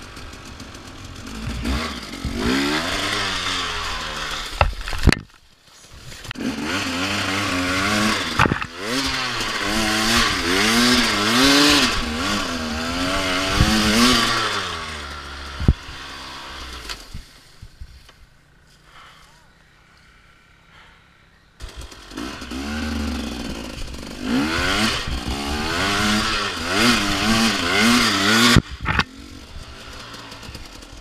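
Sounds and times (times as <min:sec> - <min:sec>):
dirt bike engine revving: 0:00.0 - 0:05.2, 0:06.1 - 0:17.3, 0:21.6 - 0:31.0.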